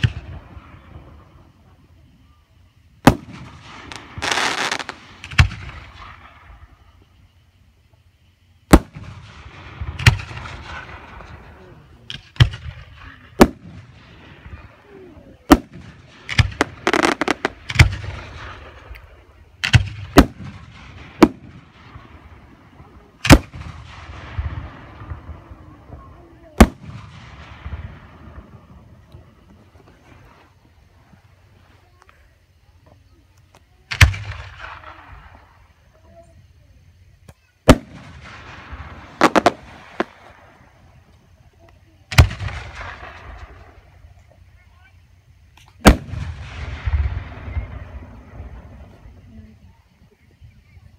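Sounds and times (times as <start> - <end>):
firework booms: 0.0 - 7.5, 8.6 - 31.6, 33.8 - 36.3, 37.3 - 50.3
firework crackling: 0.0 - 32.6, 37.0 - 49.3.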